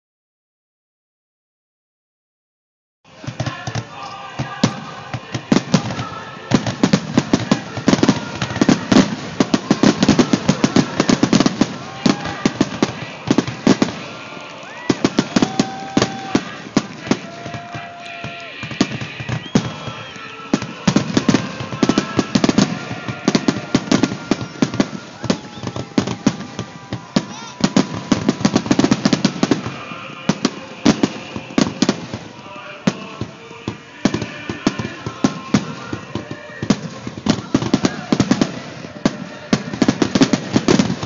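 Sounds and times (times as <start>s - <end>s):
firework bangs and crackles: 3.1s - 41.0s
firework whistles: 3.5s - 41.0s.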